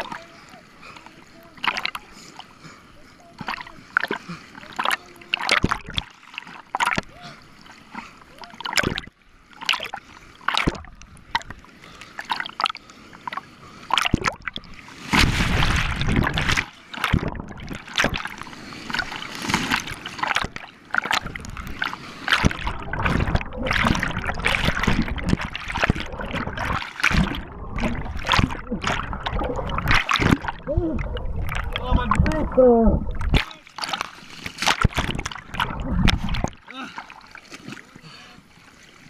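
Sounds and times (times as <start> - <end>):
river water splashing: 0.0 - 39.0.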